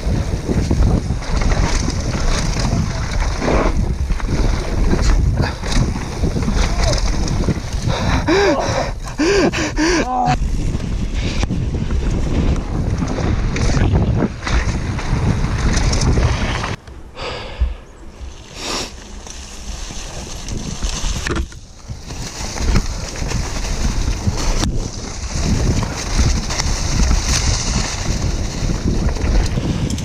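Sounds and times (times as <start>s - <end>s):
tyres rumbling over gravel: 0.0s - 16.8s, 18.2s - 30.0s
bike rattling: 0.0s - 16.9s, 18.2s - 30.0s
wind buffeting camera: 0.0s - 30.0s.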